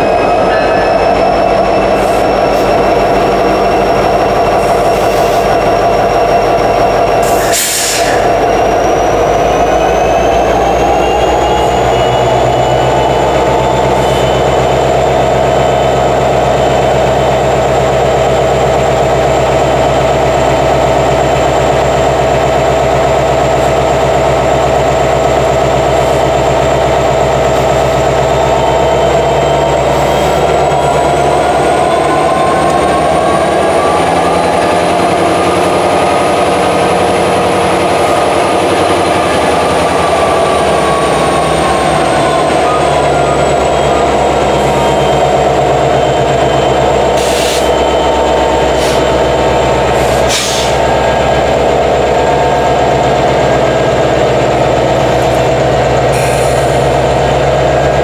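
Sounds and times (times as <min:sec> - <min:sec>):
diesel locomotive engine with whine: 0:00.0 - 0:58.0.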